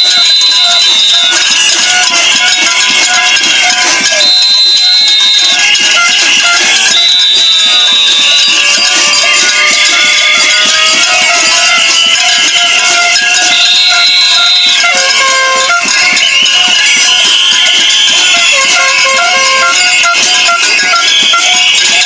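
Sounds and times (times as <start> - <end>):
air horns blowing: 0.0 - 22.0
dense rapid clatter: 0.0 - 22.0.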